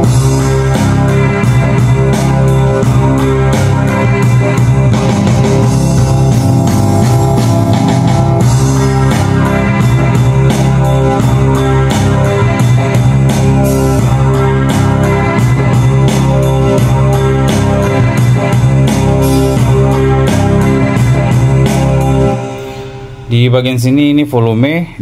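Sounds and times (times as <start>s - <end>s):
keyboard light rock accompaniment: 0.0s - 22.8s
keyboard melody: 0.0s - 24.3s.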